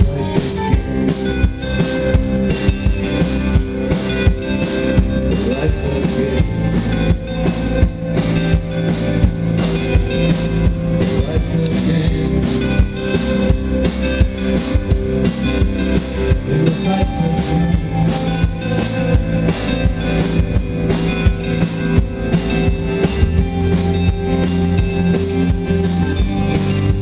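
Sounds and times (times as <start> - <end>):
acoustic and electric guitars: 0.0 - 27.0
drum kit beat: 0.0 - 27.0.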